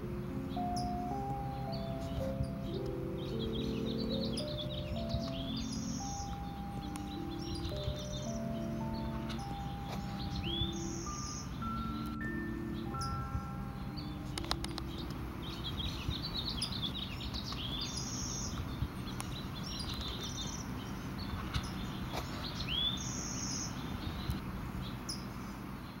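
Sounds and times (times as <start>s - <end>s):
birds chirping and trilling: 0.0s - 26.0s
low outdoor rumble: 0.0s - 26.0s.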